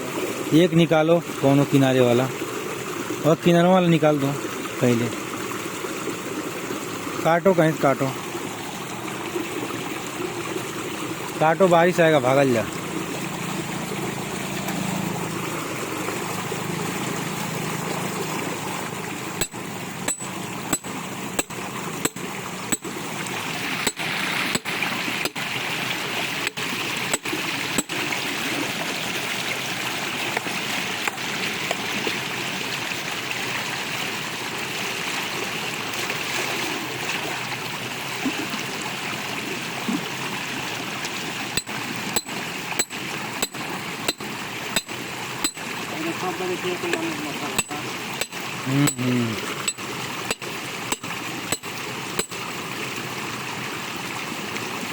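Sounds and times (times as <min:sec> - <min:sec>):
rushing running water: 0:00.0 - 0:54.9.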